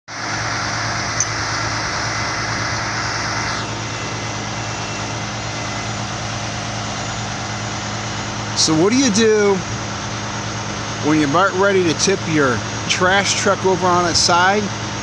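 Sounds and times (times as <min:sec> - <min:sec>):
truck engine idling: 0:00.1 - 0:15.0.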